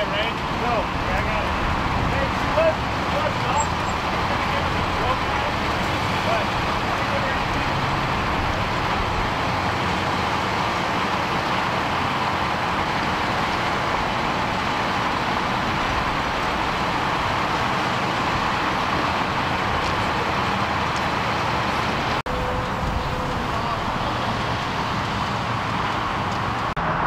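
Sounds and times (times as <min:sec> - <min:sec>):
engines and road traffic drone: 0:00.0 - 0:27.0.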